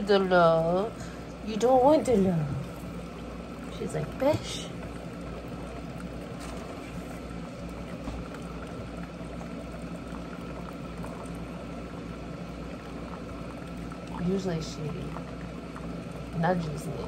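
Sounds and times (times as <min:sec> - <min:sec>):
coffee maker hissing: 0:00.0 - 0:17.0
low hum: 0:00.0 - 0:17.0.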